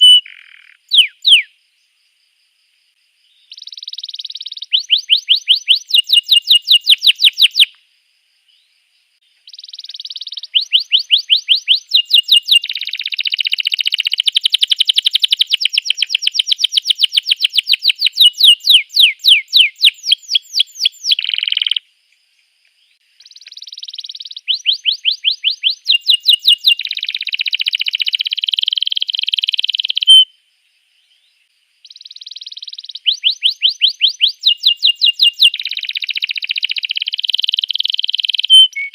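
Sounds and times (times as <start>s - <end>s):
canary singing: 0.0s - 1.5s, 3.5s - 7.8s, 9.4s - 21.8s, 23.2s - 30.3s, 31.8s - 38.9s.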